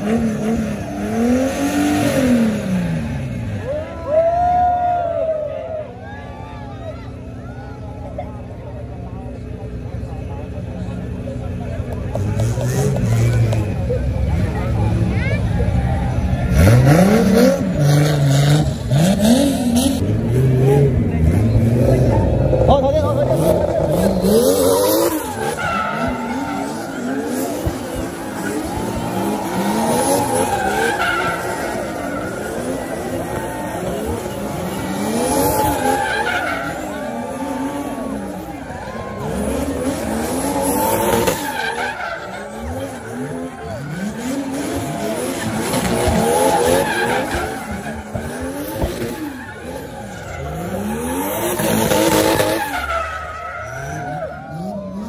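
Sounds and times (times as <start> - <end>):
car engines revving: 0.0 - 55.0
tyres squealing on asphalt: 0.0 - 55.0.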